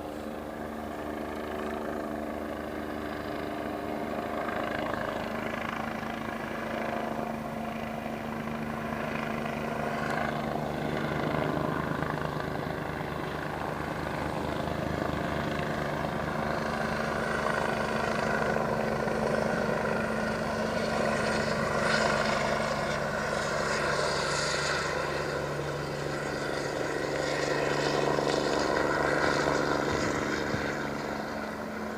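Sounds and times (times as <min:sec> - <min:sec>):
helicopter rotor beat: 0:00.0 - 0:31.9
helicopter turbine whine: 0:00.0 - 0:31.9.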